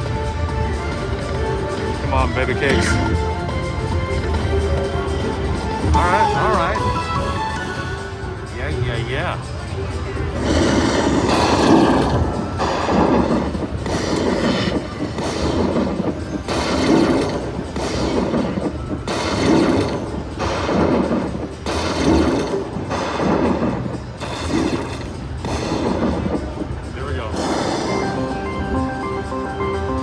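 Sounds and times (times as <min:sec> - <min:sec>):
slot machine game music: 0:00.0 - 0:30.0.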